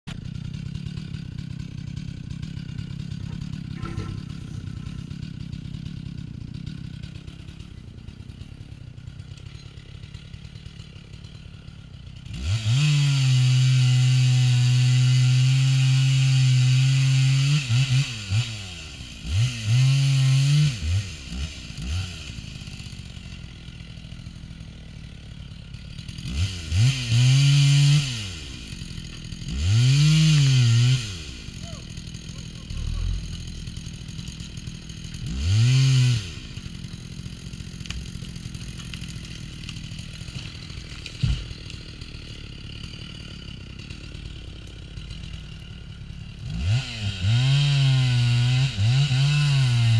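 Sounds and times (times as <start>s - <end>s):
chainsaw cutting tree: 0.1s - 49.9s.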